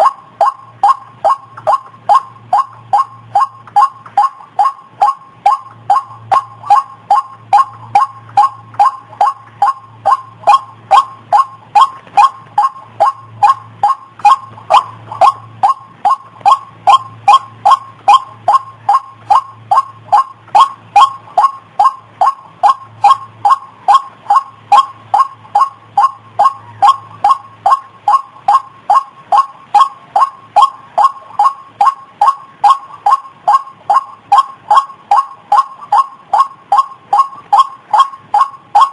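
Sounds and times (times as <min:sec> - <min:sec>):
waterhen calling: 0:00.0 - 0:38.9.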